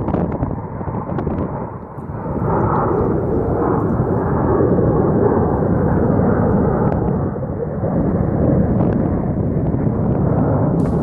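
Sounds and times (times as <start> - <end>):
jet aircraft flying overhead: 0.0 - 11.0.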